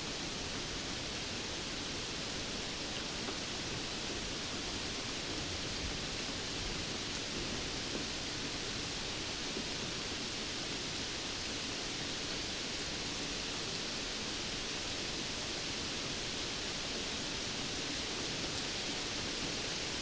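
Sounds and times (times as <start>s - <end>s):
steady rainfall hiss: 0.0s - 20.0s.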